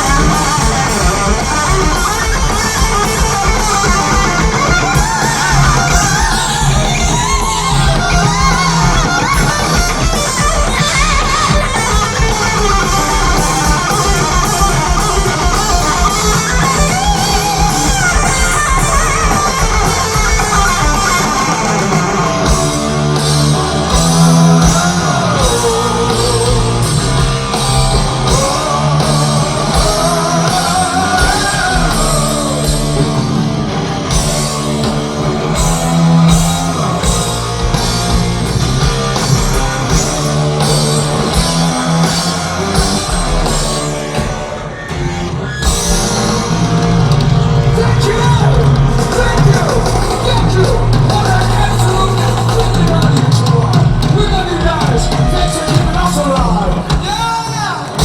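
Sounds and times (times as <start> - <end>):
electric guitar bending lead: 0.0 - 58.0
live heavy metal band: 0.0 - 58.0.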